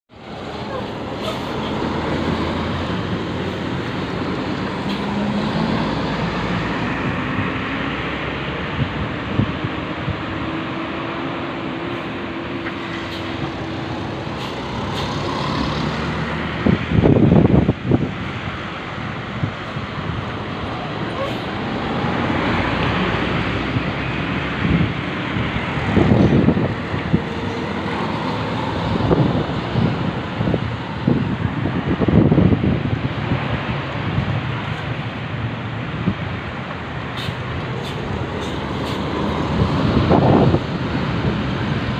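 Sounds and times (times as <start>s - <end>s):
buses driving by: 0.1s - 41.9s
road traffic: 0.1s - 41.9s
wind buffeting microphone: 1.8s - 41.9s.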